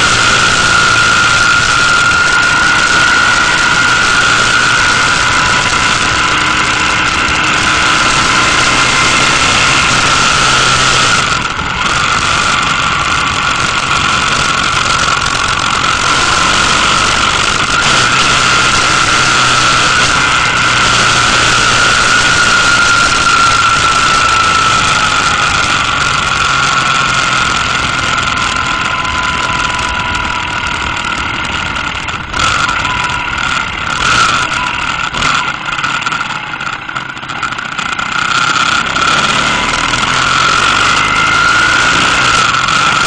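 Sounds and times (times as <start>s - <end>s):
wind noise: 0.0s - 36.2s
motorcycle engine: 0.0s - 43.0s
steady high whine: 0.0s - 43.0s.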